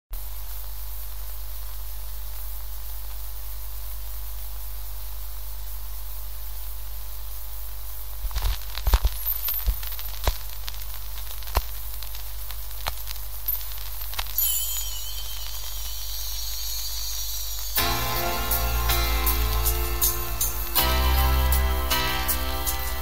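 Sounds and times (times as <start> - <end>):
electrical hum and hiss: 0.1 - 23.0
vinyl record pops and crackle: 0.2 - 4.8, 7.9 - 23.0.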